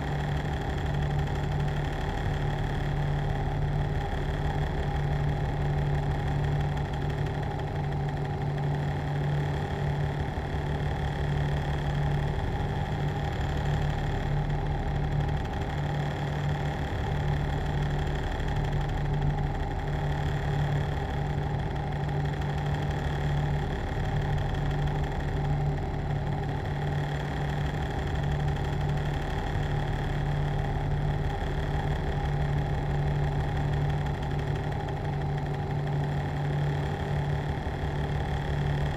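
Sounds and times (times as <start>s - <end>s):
machine humming with fast pulse: 0.0s - 38.9s.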